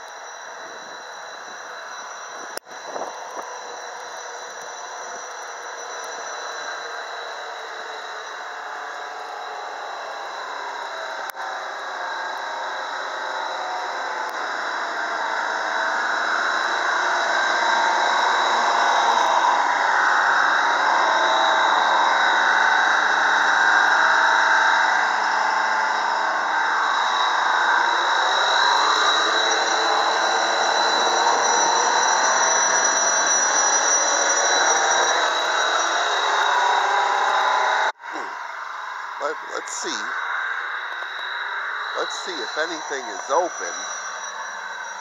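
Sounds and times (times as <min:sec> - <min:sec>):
thin high whine: 0:00.0 - 0:45.0.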